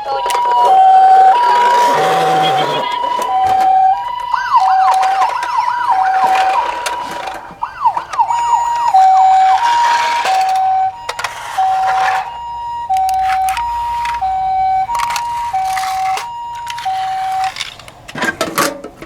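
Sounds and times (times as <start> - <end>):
siren sweeping up and down: 0.0 - 17.8
clicks: 0.0 - 18.6
two-tone ambulance siren: 0.0 - 18.6.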